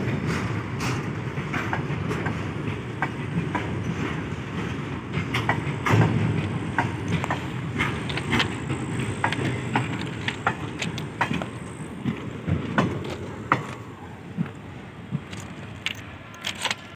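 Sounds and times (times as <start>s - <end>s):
train wagons rumbling past: 0.0s - 16.9s
wheels and couplings clanking: 0.0s - 16.9s.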